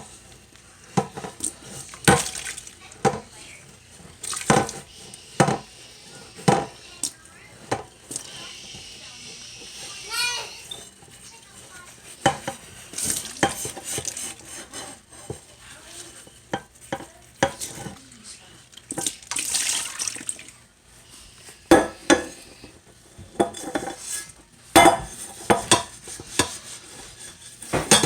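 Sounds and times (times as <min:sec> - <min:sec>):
utensils clinking on bowls and pans: 0:00.0 - 0:20.5, 0:21.4 - 0:28.0
scraping or stirring: 0:00.0 - 0:28.0.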